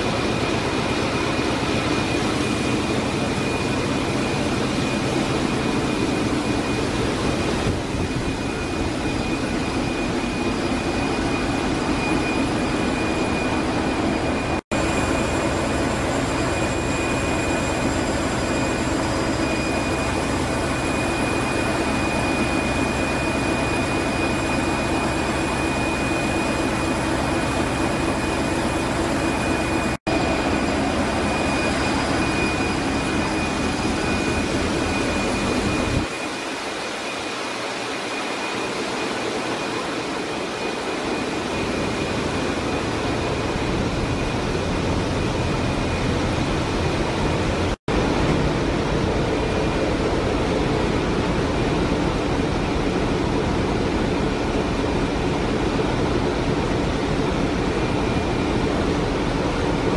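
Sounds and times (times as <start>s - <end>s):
ship engine drone with high whine: 0.0s - 59.9s.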